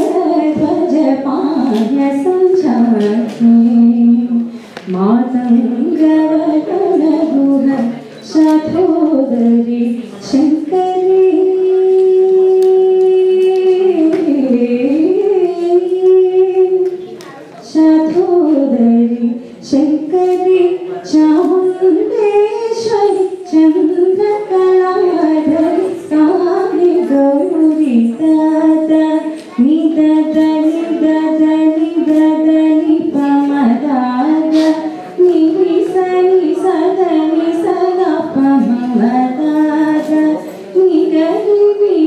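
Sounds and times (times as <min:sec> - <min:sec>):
woman singing into microphone: 0:00.0 - 0:42.0.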